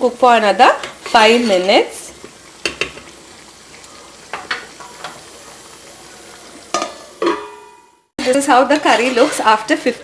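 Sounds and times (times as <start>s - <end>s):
curry sizzling in a pot: 0.0s - 10.0s.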